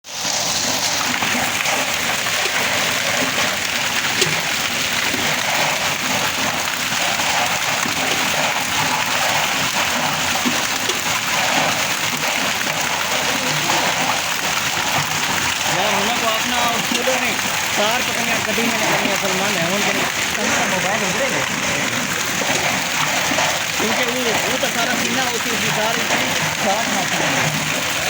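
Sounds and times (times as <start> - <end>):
heavy hail clattering: 0.2 - 28.0.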